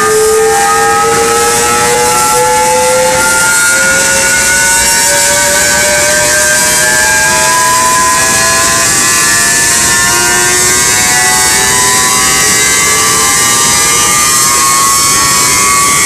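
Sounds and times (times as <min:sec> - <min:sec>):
electric motor whining spinning up: 0:00.0 - 0:16.0.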